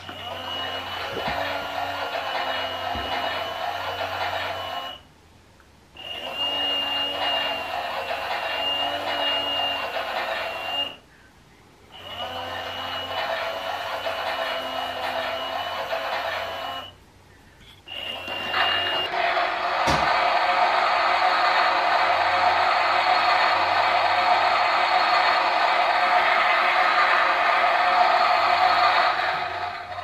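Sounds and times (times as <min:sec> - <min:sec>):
toy washing machine motor whine: 0:00.0 - 0:05.0, 0:06.0 - 0:11.0, 0:11.9 - 0:17.0, 0:17.9 - 0:30.0.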